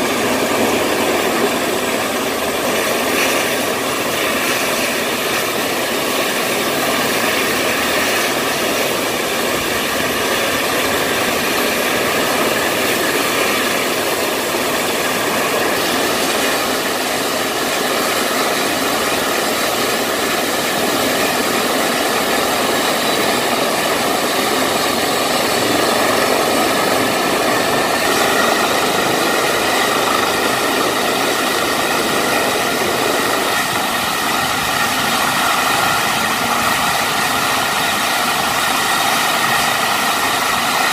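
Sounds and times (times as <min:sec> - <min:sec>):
helicopter rotor turning: 0:00.0 - 0:40.9
helicopter turbine whine: 0:00.0 - 0:40.9.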